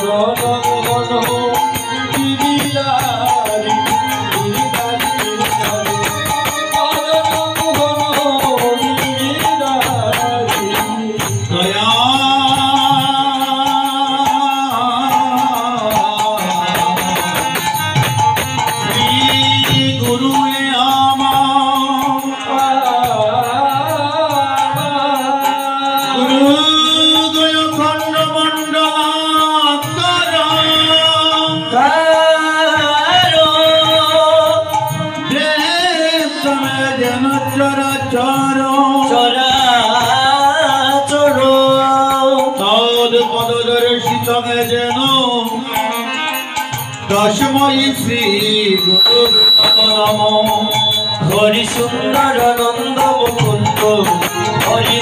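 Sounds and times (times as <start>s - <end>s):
man singing long gliding vocals: 0.0s - 17.8s, 18.8s - 55.0s
hand drum: 0.0s - 55.0s.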